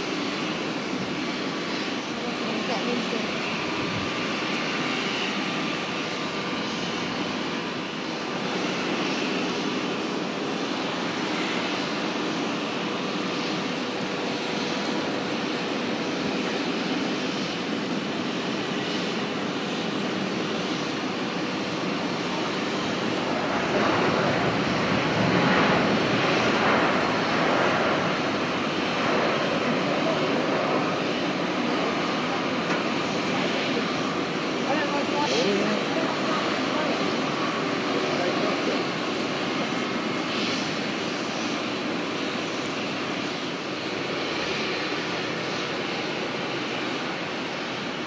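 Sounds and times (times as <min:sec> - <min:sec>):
distant jet engines: 0:00.0 - 0:48.0.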